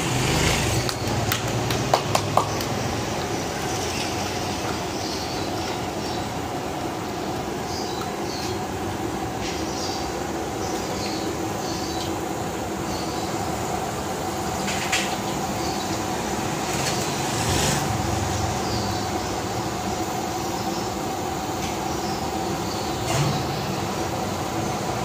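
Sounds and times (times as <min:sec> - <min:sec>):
constant background roar: 0:00.0 - 0:25.0.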